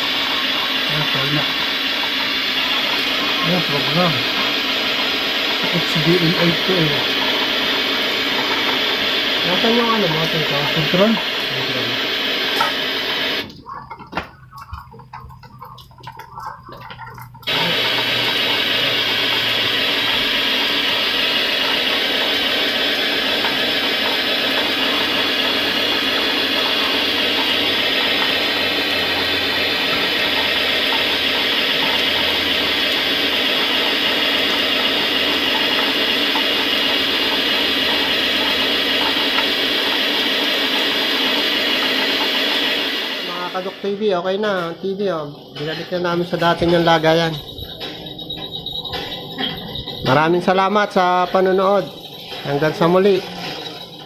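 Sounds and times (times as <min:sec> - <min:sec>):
tv static hiss: 0:00.0 - 0:15.5, 0:16.8 - 0:47.9.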